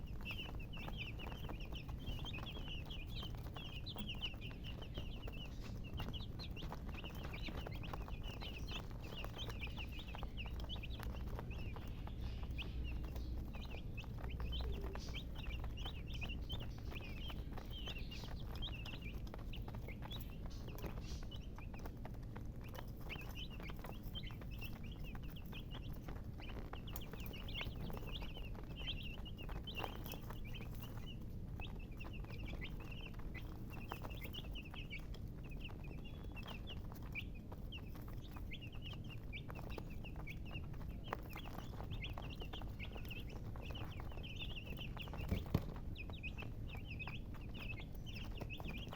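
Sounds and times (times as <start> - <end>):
baby chicks peeping: 0.0 - 48.9.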